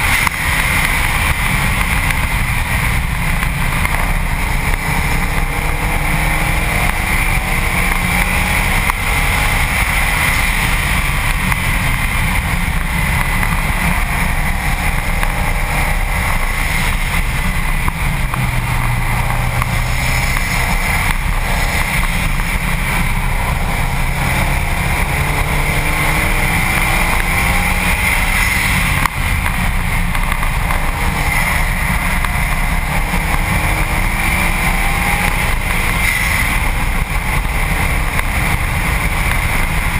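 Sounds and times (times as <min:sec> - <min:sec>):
car engine accelerating: 0:00.0 - 0:39.9
wind and road rush: 0:00.0 - 0:39.9.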